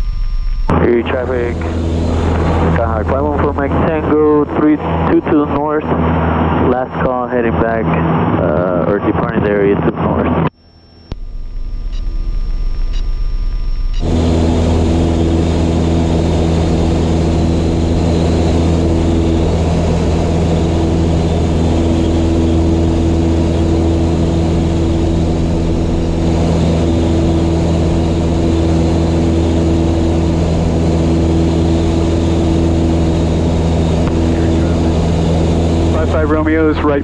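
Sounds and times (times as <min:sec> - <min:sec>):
propeller plane engine drone: 0:00.0 - 0:37.0.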